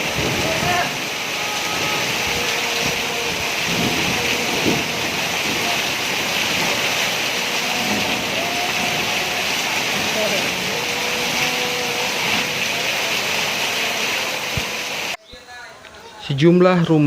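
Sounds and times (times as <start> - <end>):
heavy rain pouring: 0.0 - 15.2.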